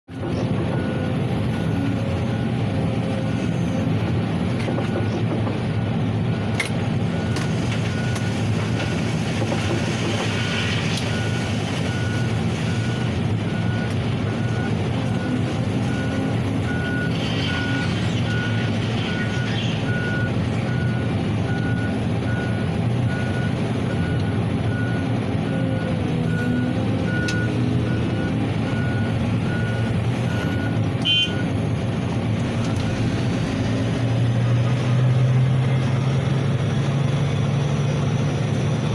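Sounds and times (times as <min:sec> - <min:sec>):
truck engine running: 0:00.1 - 0:38.9.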